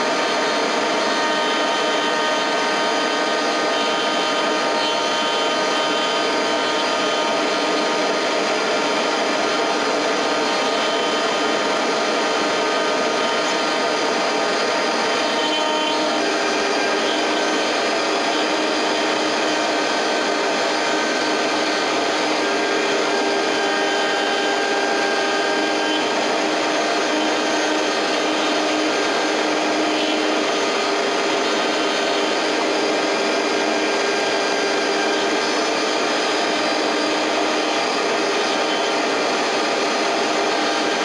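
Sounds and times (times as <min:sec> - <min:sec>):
dust extraction vacuum: 0:00.0 - 0:41.0
milling machine spindle running: 0:00.0 - 0:41.0.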